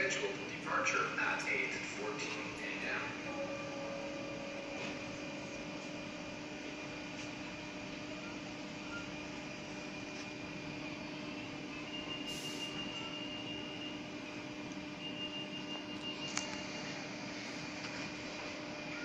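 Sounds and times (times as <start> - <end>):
electric train equipment hum: 0.0 - 19.0.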